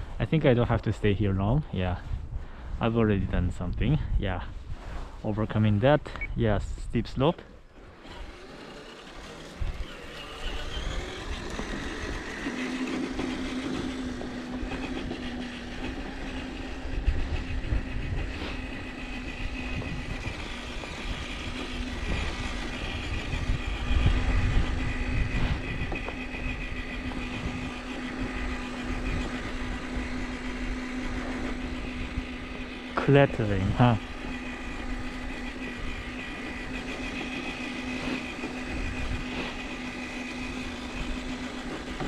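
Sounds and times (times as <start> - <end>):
toy truck motor whining: 7.2 - 42.0.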